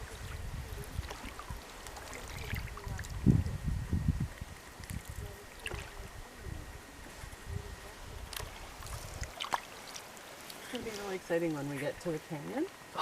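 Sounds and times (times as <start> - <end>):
paddle strokes: 0.0 - 3.2, 4.3 - 12.8
water trickling and lapping: 0.0 - 13.0.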